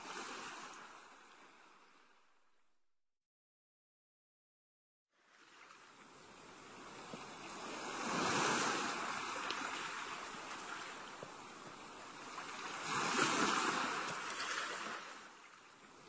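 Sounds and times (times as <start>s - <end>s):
ocean waves breaking on beach: 0.0s - 2.2s, 5.2s - 16.0s.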